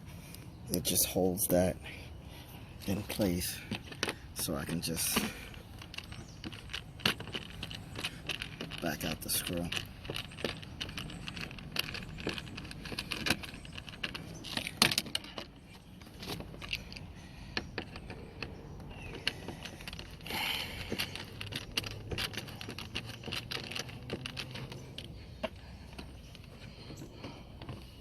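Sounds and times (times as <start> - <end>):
screwdriver metallic clicks and scrapes: 2.8 - 27.9.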